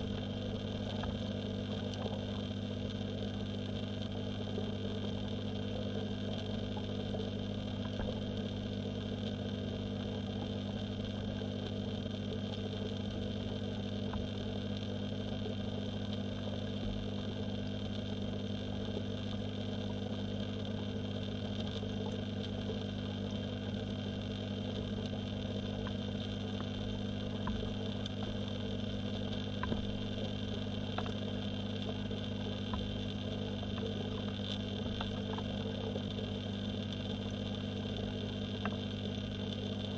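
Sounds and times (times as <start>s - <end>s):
faint ticks: 0.0s - 39.9s
underwater mechanical hum: 0.0s - 39.9s.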